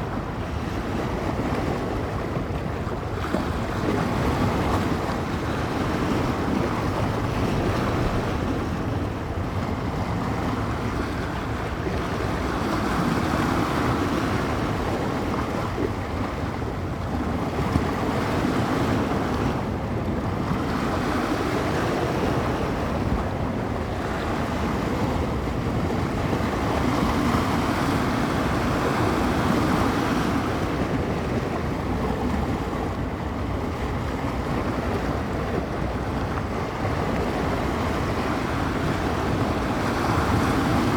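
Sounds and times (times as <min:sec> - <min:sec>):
small waves washing onto shore: 0:00.0 - 0:40.9
wind buffeting microphone: 0:00.0 - 0:40.9.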